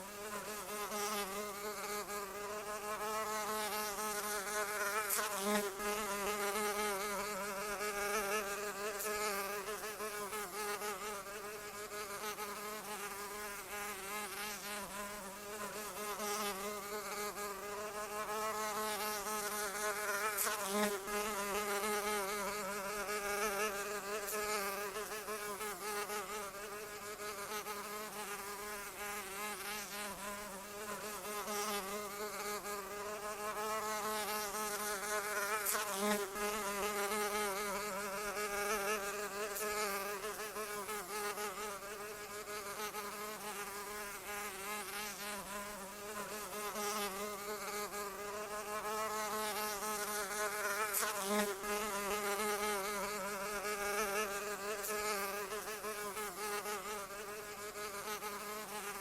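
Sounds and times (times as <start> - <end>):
insect wingbeat buzz: 0.0 - 59.0.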